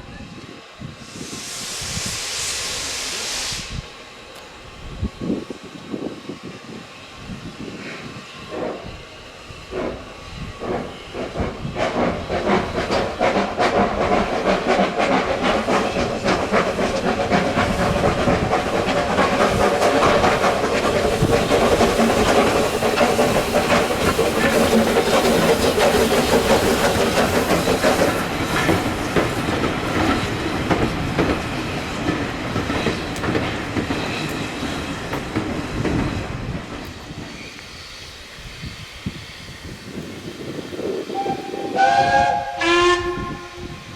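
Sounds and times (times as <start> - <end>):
carriages rumbling on rails: 0.0 - 43.9
steam hiss: 0.4 - 43.9
steam locomotive chuffing: 0.9 - 43.9.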